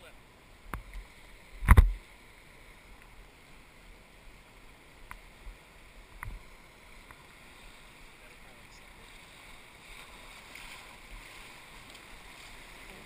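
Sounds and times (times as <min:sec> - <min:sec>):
river water rushing: 0:00.1 - 0:13.0.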